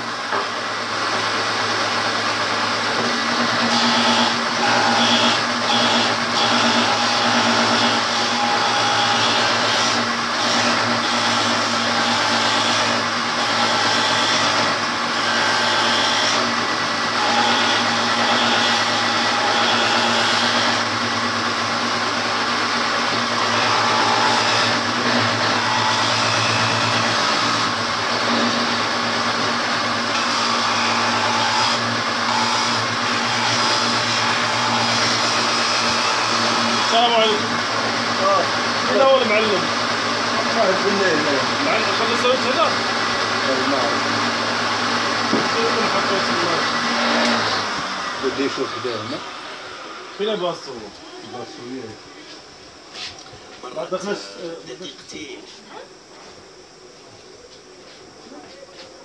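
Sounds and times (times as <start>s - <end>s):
woodworking machine motor hum: 0.0s - 59.0s.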